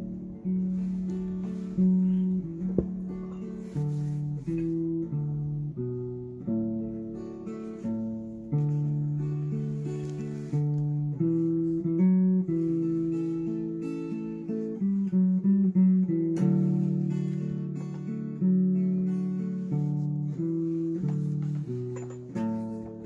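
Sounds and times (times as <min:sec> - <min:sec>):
plucked string instrument melody: 0:00.0 - 0:23.0.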